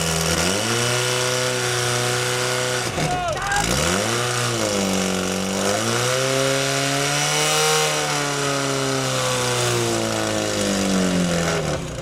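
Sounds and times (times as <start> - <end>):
small pump engine at high revs: 0.0 - 12.0.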